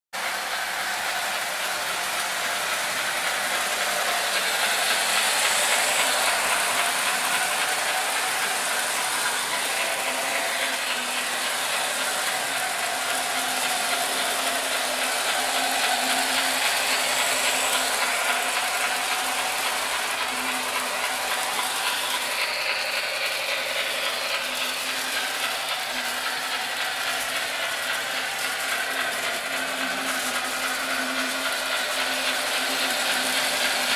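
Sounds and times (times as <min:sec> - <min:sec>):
model train motor whirring: 0:00.2 - 0:33.9
wheels running on rails: 0:00.2 - 0:33.9.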